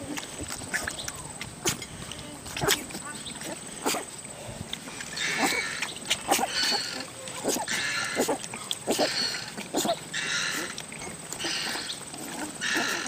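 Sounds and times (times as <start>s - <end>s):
puppies squeaking and whimpering: 0.0s - 4.2s, 4.8s - 13.0s
puppies lapping and slurping food: 0.0s - 13.0s.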